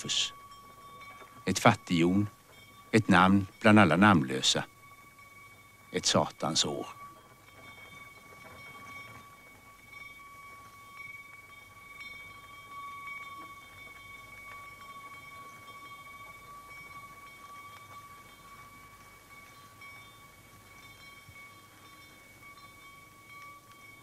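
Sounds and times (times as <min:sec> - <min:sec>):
faint sleigh bells jingling: 0:00.0 - 0:24.0.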